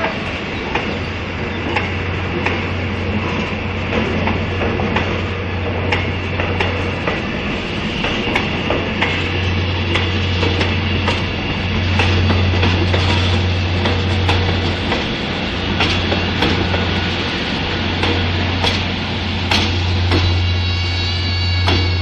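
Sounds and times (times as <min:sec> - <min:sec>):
train low hum: 0:00.0 - 0:22.0
train wheels clicking on rail joints: 0:00.0 - 0:22.0.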